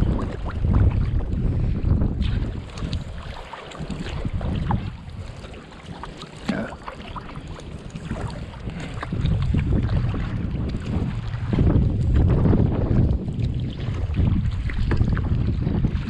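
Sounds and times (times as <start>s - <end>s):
water splashing against kayak hull: 0.0s - 16.0s
wind buffeting microphone: 0.0s - 16.0s.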